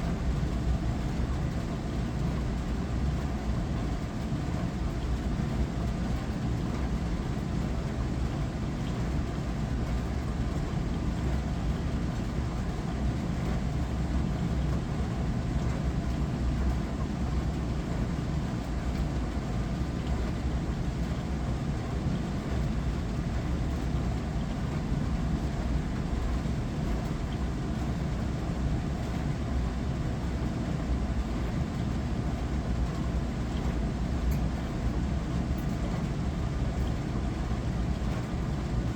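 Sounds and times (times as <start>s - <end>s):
dishwasher motor hum: 0.0s - 38.9s.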